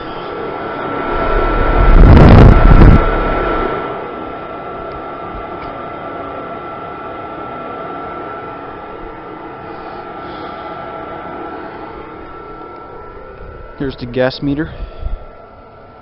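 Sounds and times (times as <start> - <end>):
furnace exhaust rush with whine: 0.0 - 16.0.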